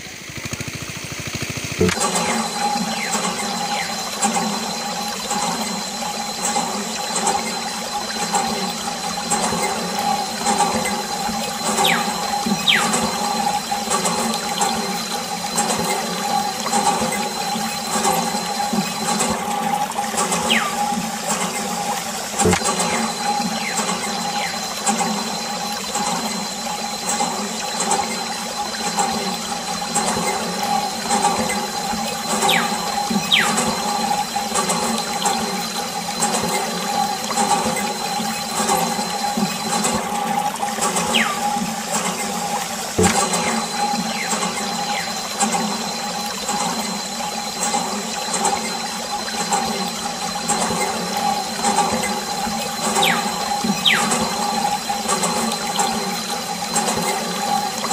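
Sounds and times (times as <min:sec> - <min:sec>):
small pump motor whine: 0:00.0 - 0:57.9
water jet splashing on plastic: 0:00.0 - 0:57.9.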